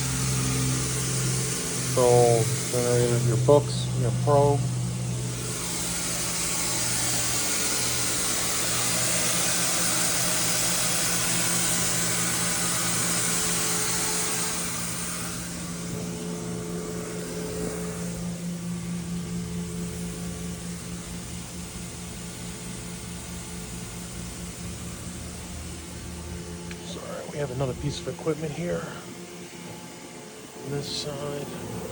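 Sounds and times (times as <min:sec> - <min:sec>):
cooling fan hiss: 0:00.0 - 0:31.9
electrical motor hum: 0:00.0 - 0:31.9.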